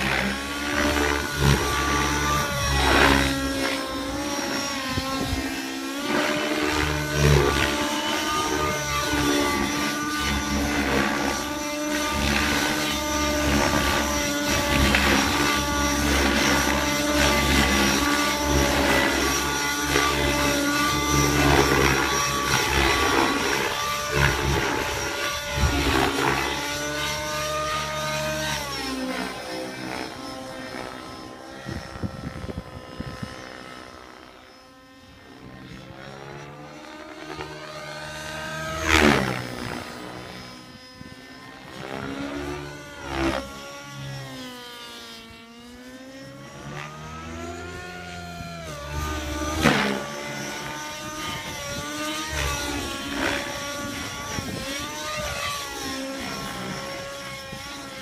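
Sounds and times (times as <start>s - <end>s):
model helicopter engine and rotors: 0.0s - 58.0s.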